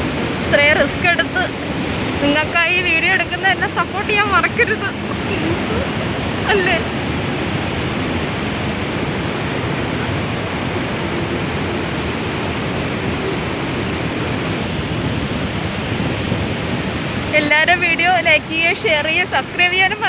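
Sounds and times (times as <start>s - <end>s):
river roaring over rocks: 0.0s - 20.0s.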